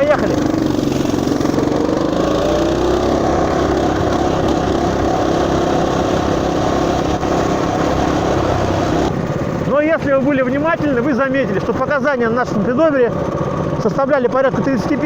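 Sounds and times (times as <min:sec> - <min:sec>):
motorbike engine running hard: 0:00.0 - 0:15.0.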